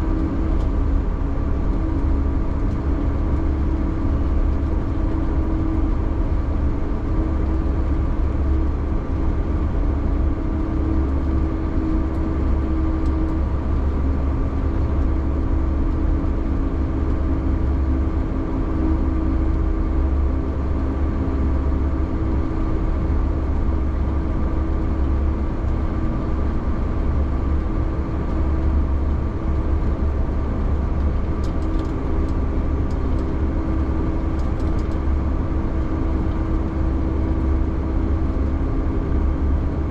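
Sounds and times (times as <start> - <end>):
diesel engine deep rumble: 0.0 - 39.9
steady engine whine: 0.0 - 39.9.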